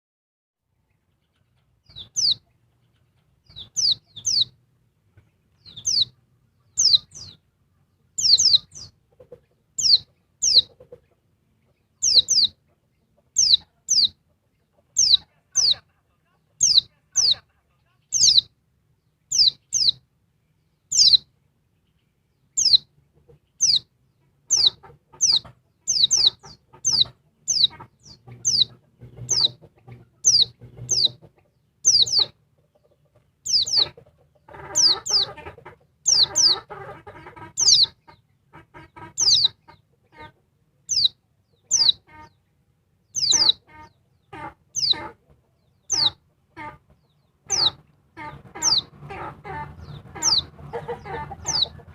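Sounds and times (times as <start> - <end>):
low bird chattering: 1.1 - 4.6, 5.6 - 7.4, 8.2 - 11.1, 11.7 - 15.9, 16.5 - 18.5, 19.3 - 20.0, 20.9 - 21.2, 22.6 - 23.9, 24.5 - 42.4, 43.1 - 51.9.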